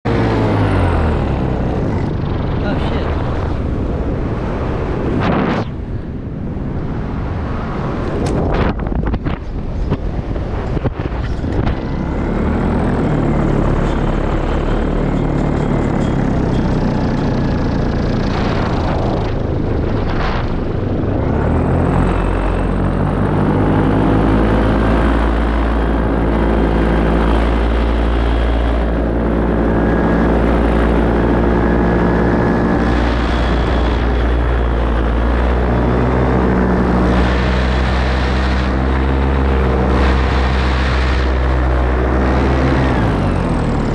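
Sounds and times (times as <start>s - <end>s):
paramotor engine and propeller drone: 0.0s - 43.9s
wind on microphone: 0.1s - 43.9s.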